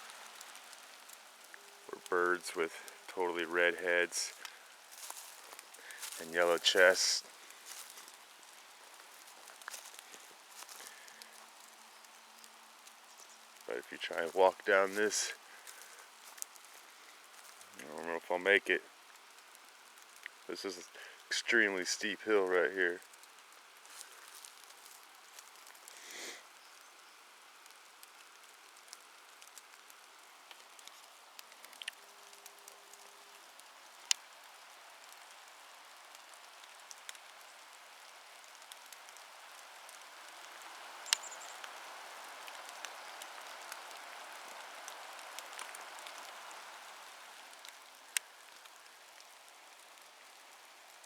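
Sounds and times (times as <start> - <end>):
sharp ticks of raindrops: 0.0 - 51.0
steady rain in forest: 0.0 - 51.0.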